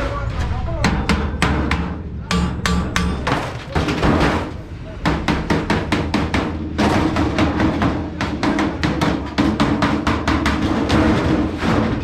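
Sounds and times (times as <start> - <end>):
hammer striking sheet metal: 0.4 - 12.0.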